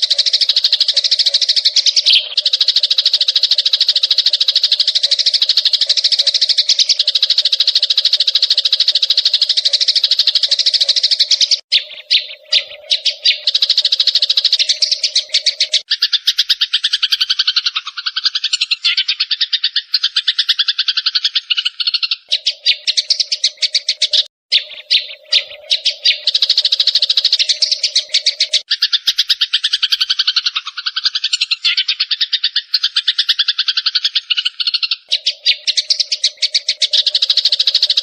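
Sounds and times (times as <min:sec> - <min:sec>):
sparrows chirping: 0:00.0 - 0:38.0.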